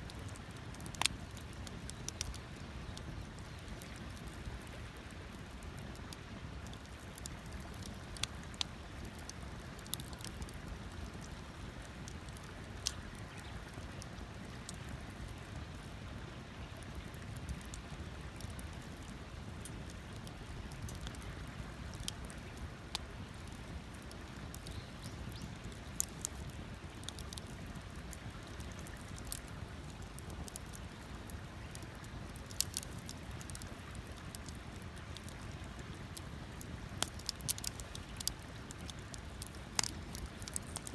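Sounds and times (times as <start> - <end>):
campfire popping: 0.0 - 40.9
low steady fire rumble: 0.0 - 40.9.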